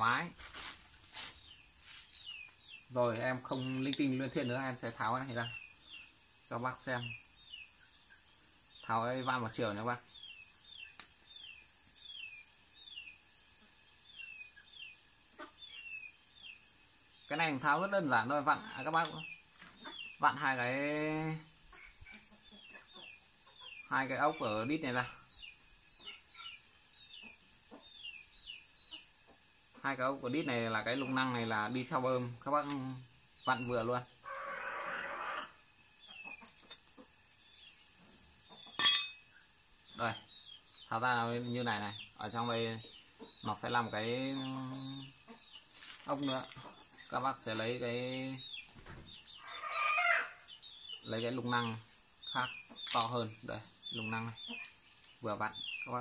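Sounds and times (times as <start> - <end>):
bird chirping: 1.3 - 34.2, 35.7 - 56.0.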